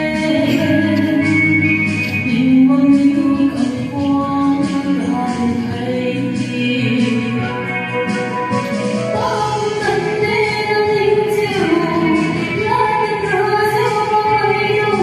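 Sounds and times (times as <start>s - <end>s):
woman singing into a microphone: 0.0s - 15.0s.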